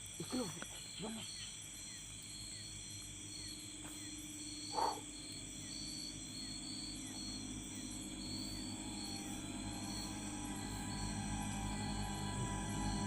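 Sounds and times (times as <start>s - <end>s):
low steady hum: 0.0s - 13.0s
night insects chirping: 0.0s - 13.0s.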